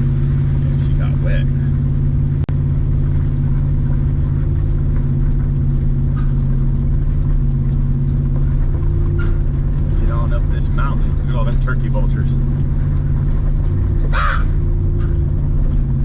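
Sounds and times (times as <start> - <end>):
truck engine drone inside cab: 0.0 - 16.0.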